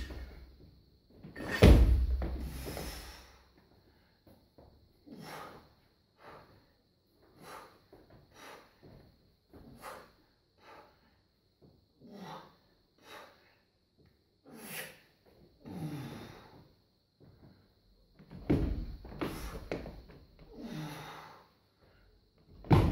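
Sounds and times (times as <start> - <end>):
man breathing hard: 0.0 - 0.6, 1.4 - 17.9, 19.0 - 22.3.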